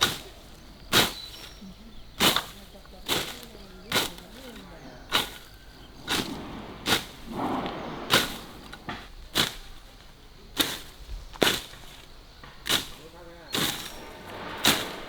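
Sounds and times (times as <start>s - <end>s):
machete swishing through grass: 0.0s - 15.0s
rustle of cut grass: 0.0s - 15.0s.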